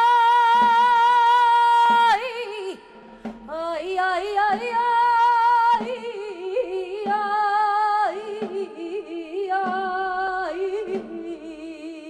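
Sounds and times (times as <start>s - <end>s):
person singing wordless melisma: 0.0s - 12.0s.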